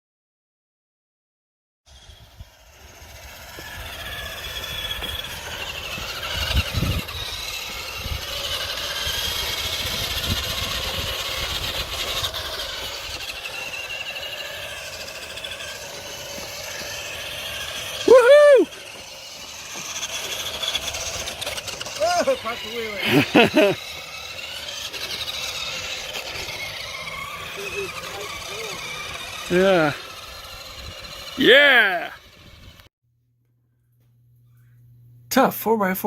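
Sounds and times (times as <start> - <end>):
toy truck motor whining: 1.9 - 32.9.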